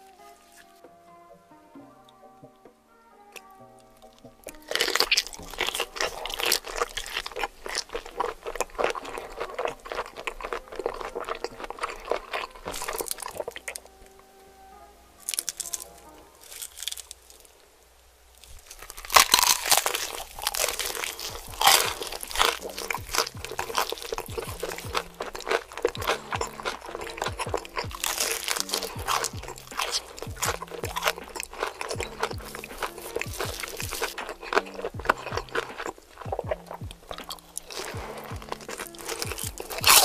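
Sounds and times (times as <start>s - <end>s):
soft background music: 0.0s - 40.0s
crunching fried chicken: 3.4s - 13.9s, 15.2s - 17.6s, 18.4s - 40.0s.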